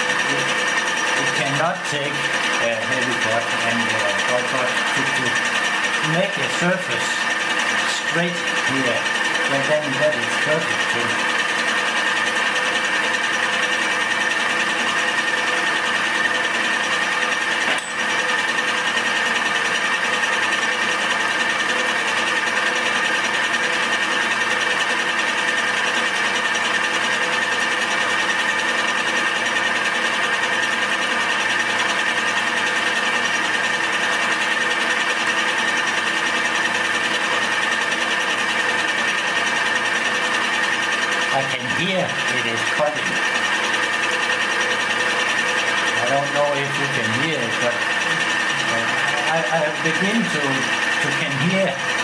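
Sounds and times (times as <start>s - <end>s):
milling machine cutting metal: 0.0s - 52.0s.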